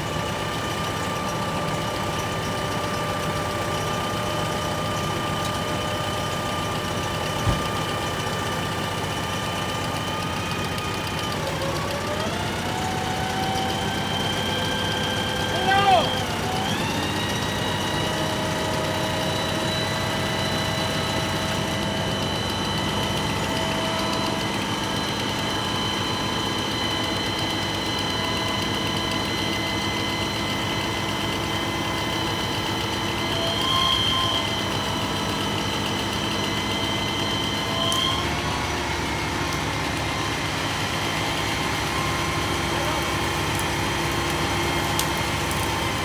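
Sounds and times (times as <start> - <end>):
truck engine running: 0.0 - 46.0.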